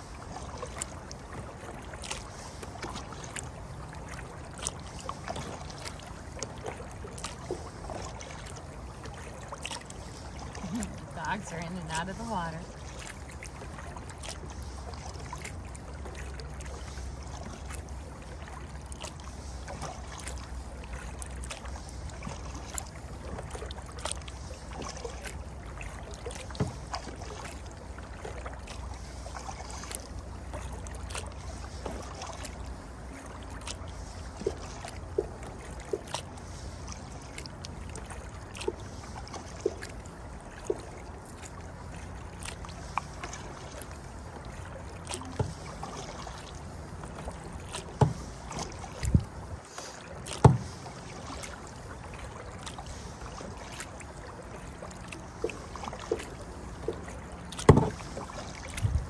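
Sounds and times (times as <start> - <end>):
paddle water swishing and dripping: 0.0 - 59.0.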